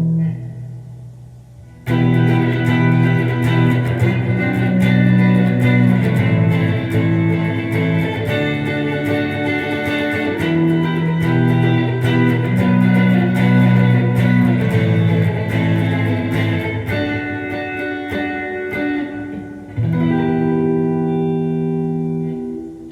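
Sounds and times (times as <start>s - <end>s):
electric guitar chords ringing: 0.0s - 22.9s.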